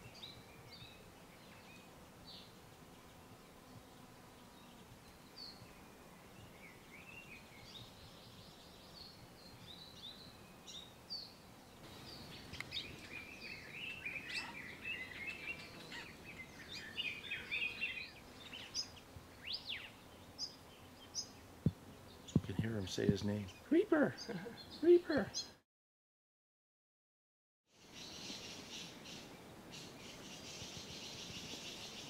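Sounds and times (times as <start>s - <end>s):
songbirds chirping and twittering: 0.0s - 25.6s, 27.7s - 32.0s.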